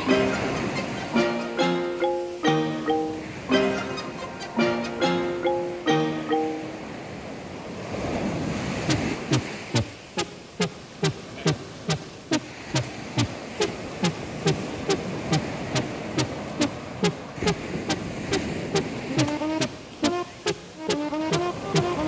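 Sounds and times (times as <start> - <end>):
electronic melody line: 0.0 - 6.9, 8.9 - 22.0.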